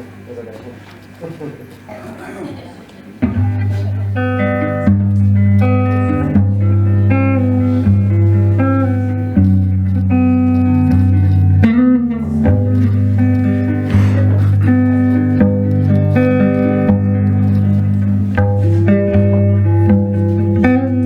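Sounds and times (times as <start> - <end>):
plucked guitar melody: 3.2 - 21.0
low sustained bass notes: 3.4 - 21.0.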